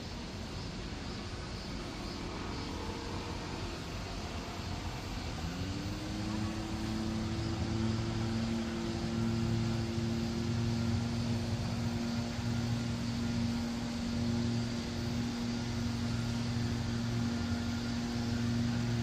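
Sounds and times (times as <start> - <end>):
engine hum: 0.0 - 19.0
steady rushing noise: 0.0 - 19.0.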